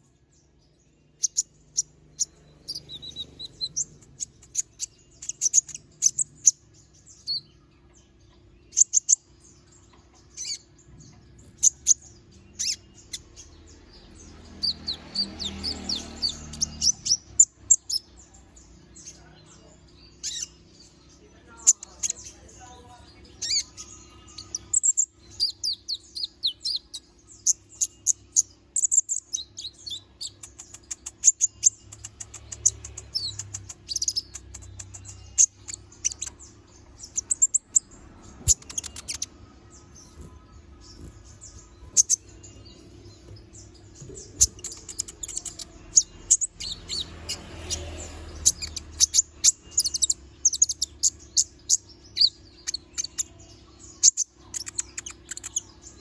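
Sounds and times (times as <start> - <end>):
faint low hum: 0.0 - 56.0
sunbird singing high chirps and trills: 0.0 - 56.0.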